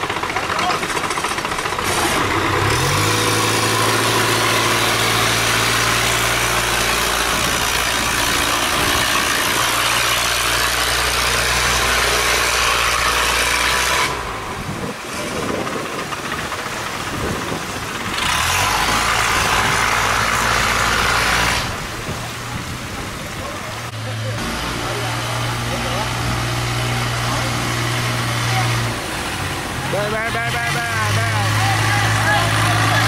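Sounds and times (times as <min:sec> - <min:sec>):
boat engine running hard: 0:00.0 - 0:33.0
rushing churning water: 0:00.0 - 0:33.0.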